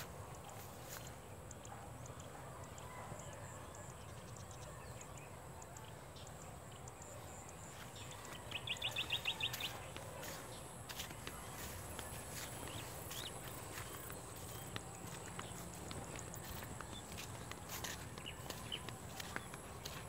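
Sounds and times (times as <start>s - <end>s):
outdoor background noise: 0.0s - 20.0s
bird chirping: 2.7s - 20.0s.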